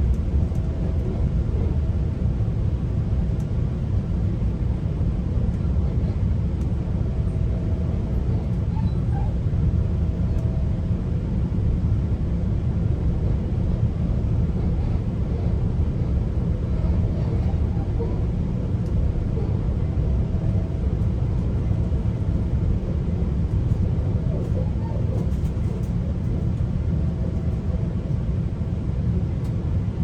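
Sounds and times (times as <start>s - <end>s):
train wheels rumbling on rail: 0.0s - 29.9s
faint hum: 0.0s - 30.0s.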